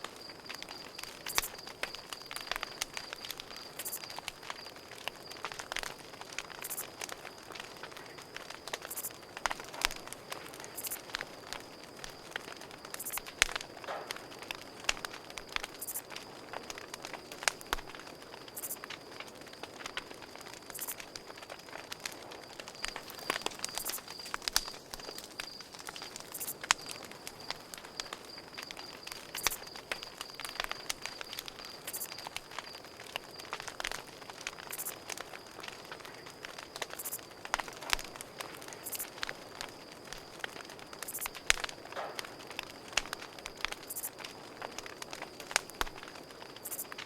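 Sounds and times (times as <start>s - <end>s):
campfire crackling and popping: 0.0s - 47.0s
crickets trilling: 0.0s - 47.0s.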